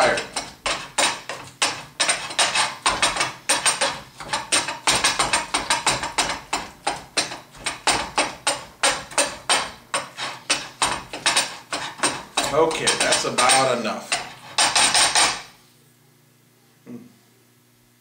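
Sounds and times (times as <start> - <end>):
masher knocking and squishing in bowl: 0.0 - 15.6.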